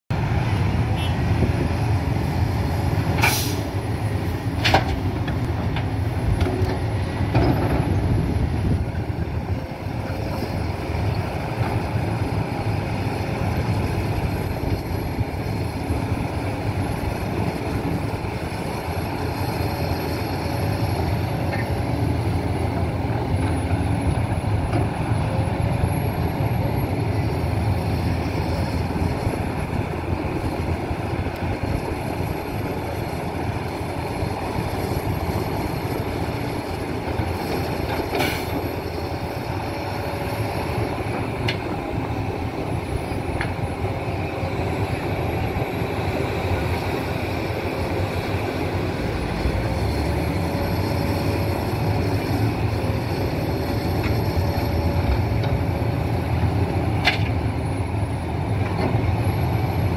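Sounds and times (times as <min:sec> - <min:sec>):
heavy diesel machinery rumbling: 0:00.1 - 0:59.9.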